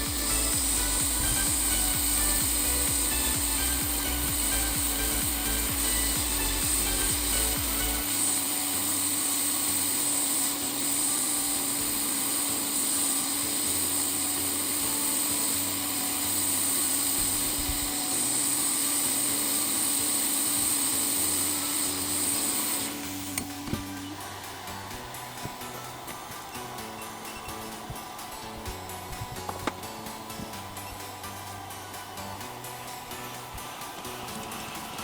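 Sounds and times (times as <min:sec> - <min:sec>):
blower rushing air: 0:00.0 - 0:35.0
low motor hum: 0:00.0 - 0:35.0.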